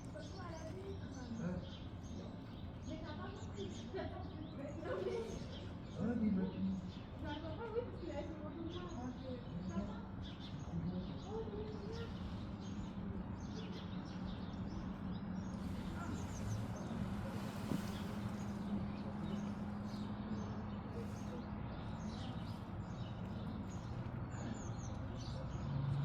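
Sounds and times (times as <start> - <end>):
background murmur: 0.0 - 26.0
small birds chirping: 0.0 - 26.0.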